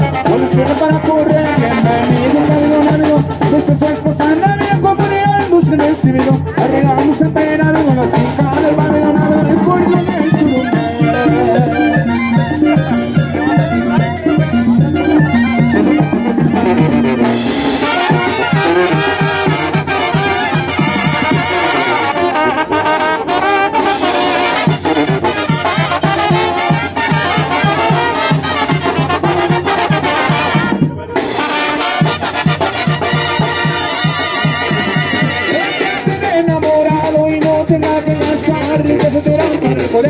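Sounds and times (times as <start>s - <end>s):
brass band playing: 0.0s - 40.0s.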